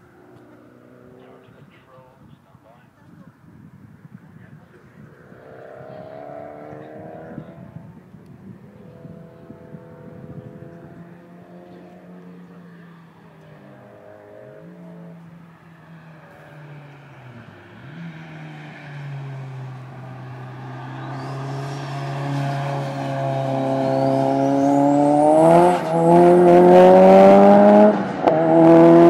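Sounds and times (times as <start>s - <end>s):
race car engine accelerating: 5.0s - 29.0s.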